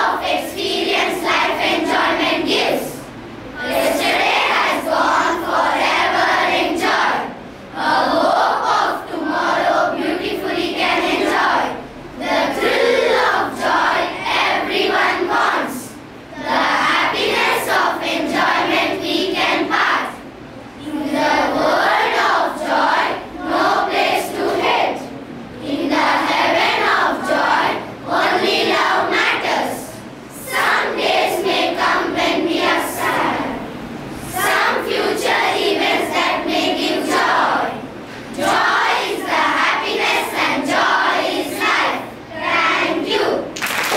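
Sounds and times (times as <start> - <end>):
children reciting in unison: 0.0 - 43.9.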